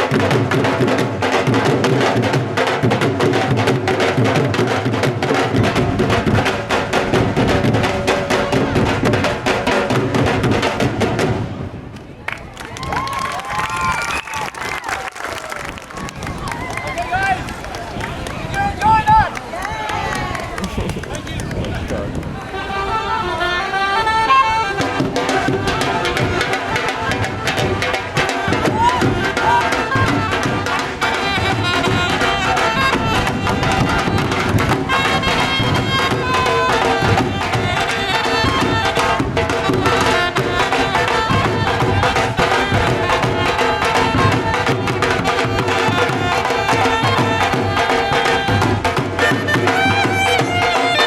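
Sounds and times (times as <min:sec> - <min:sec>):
dhol drums playing: 0:00.0 - 0:11.5, 0:20.6 - 0:51.0.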